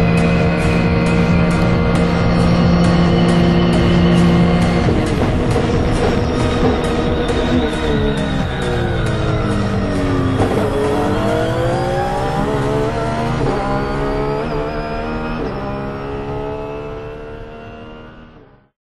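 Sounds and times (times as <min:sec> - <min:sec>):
quick gear upshifts: 0:00.0 - 0:18.3
race car engine accelerating: 0:00.0 - 0:18.7.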